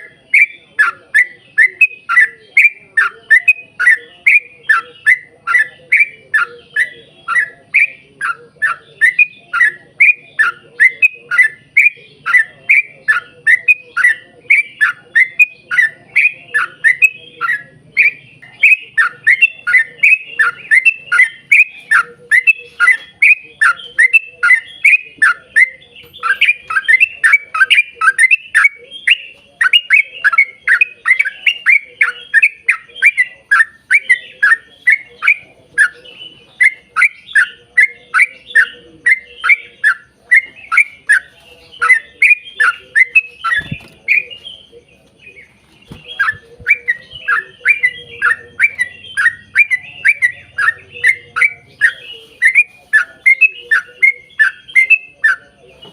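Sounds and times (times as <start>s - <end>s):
bird singing falling chirps: 0.0s - 55.9s.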